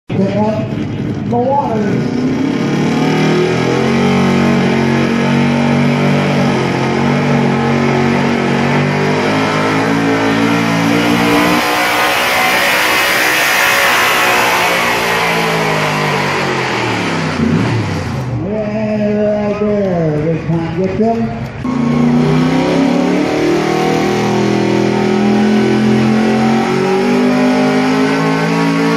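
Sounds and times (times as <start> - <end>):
truck engine at high revs: 0.1 - 28.9.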